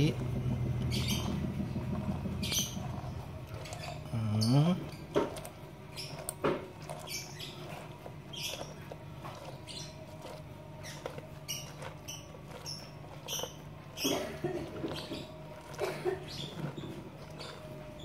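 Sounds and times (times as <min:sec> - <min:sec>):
lemon squeaking on citrus squeezer: 0:00.0 - 0:18.0.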